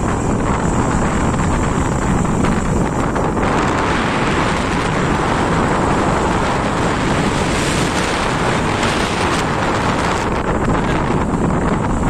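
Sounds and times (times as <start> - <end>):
motorbike ride rush: 0.0 - 12.0
wind buffeting microphone: 0.0 - 12.0.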